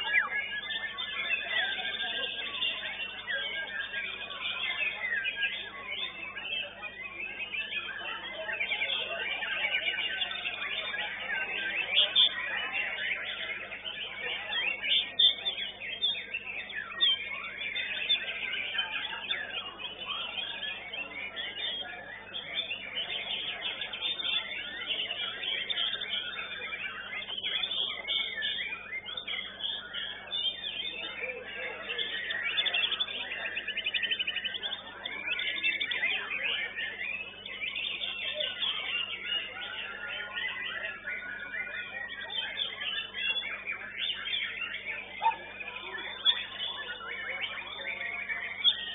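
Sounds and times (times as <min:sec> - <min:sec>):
birds singing whistled phrases: 0:00.0 - 0:48.9.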